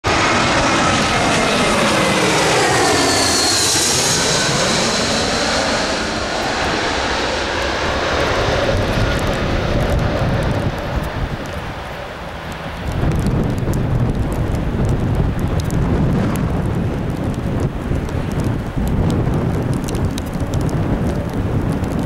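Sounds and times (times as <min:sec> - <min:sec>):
jet airliner engines whining: 0:00.0 - 0:22.0.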